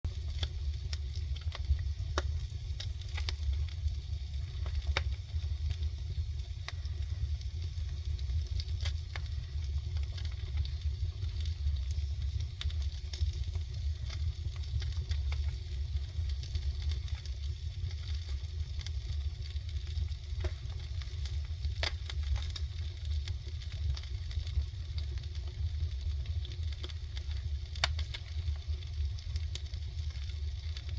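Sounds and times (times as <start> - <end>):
low rumble: 0.1 - 30.1
burning logs crackling: 0.1 - 30.9
fish sizzling over fire: 0.1 - 30.9.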